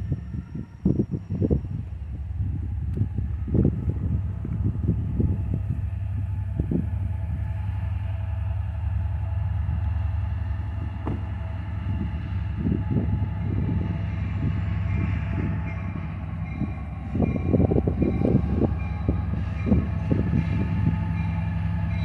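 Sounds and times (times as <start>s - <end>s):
diesel locomotive engine droning: 0.0s - 22.0s.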